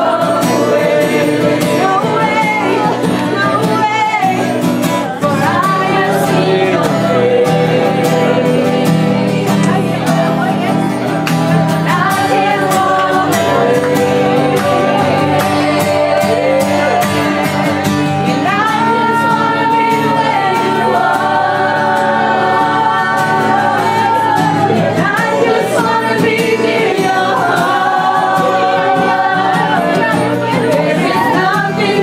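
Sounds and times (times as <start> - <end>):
group of voices singing: 0.0 - 32.0.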